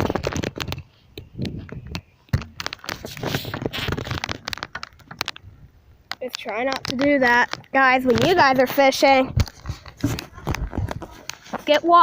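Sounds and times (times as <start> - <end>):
handling noise rustling and clicking: 0.0 - 12.0.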